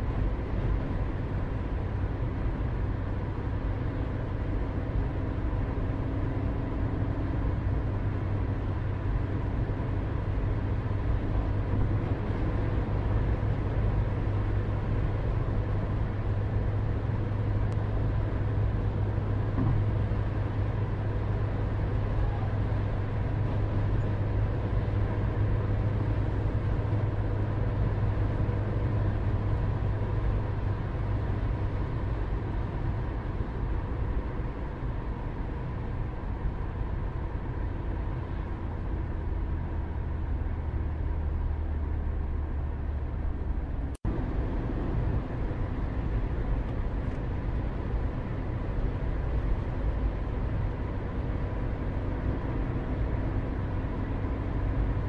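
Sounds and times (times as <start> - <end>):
low rumble: 4.4 - 55.0.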